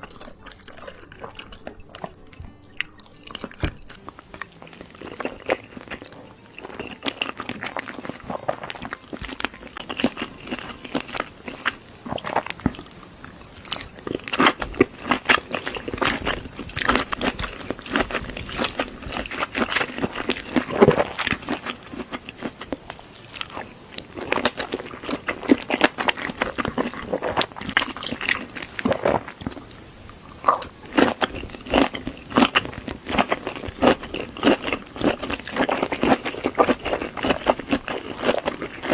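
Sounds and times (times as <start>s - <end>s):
wet chewing and mouth sounds: 0.0s - 38.9s.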